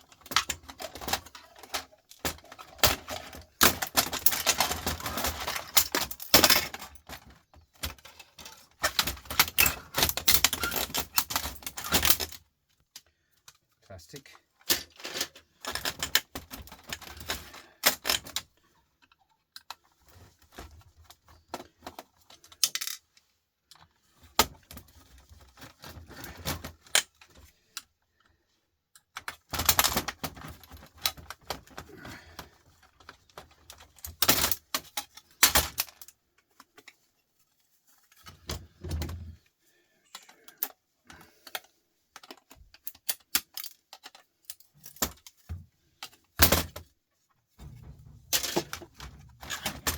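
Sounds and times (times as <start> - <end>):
small parts clattering: 0.0 - 13.6, 14.5 - 49.9.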